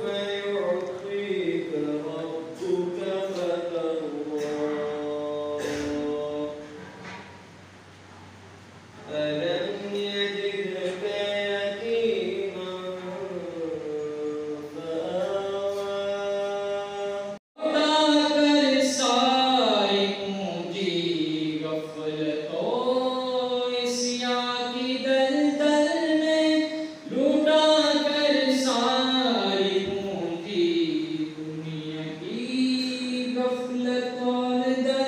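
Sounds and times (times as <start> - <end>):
man chanting melodic recitation: 0.0 - 7.4, 9.0 - 35.0.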